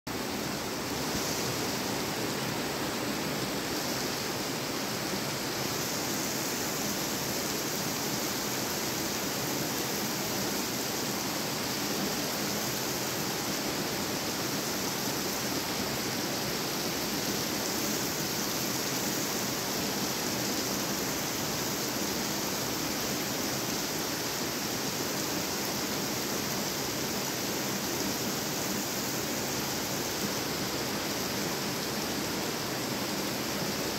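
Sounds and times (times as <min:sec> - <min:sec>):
heavy rain on pavement and cars: 0:00.1 - 0:33.9.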